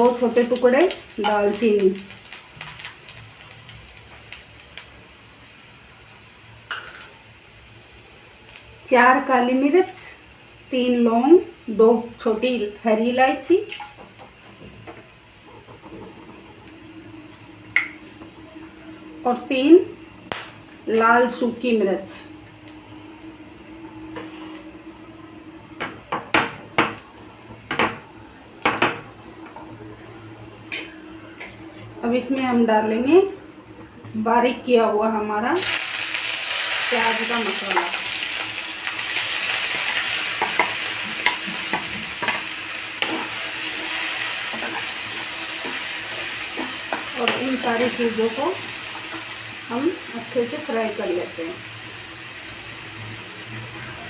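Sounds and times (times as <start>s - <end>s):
garlic sizzling in hot oil: 0.0s - 25.2s, 34.2s - 54.0s.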